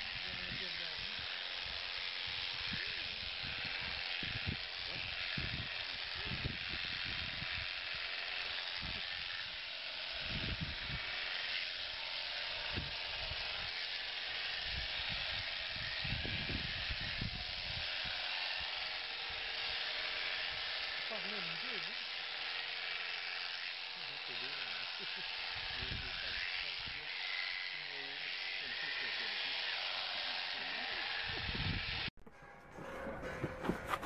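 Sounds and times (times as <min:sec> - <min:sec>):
electric shears hissing: 0:00.0 - 0:34.0.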